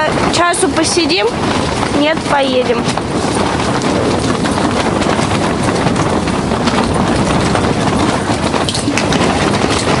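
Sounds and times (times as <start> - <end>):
wind buffeting tent fabric: 0.0 - 10.0.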